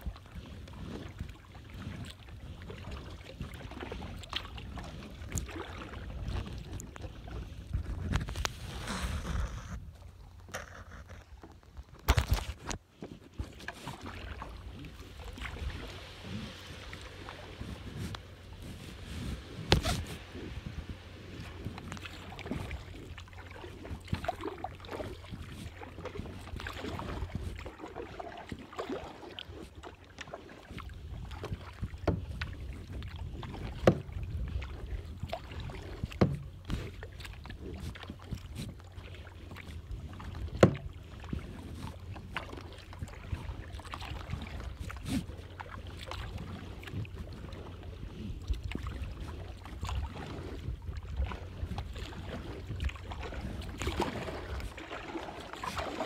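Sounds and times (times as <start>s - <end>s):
wind rumble on microphone: 0.0s - 28.8s, 30.6s - 55.9s
paddle splashing in water: 0.0s - 56.0s.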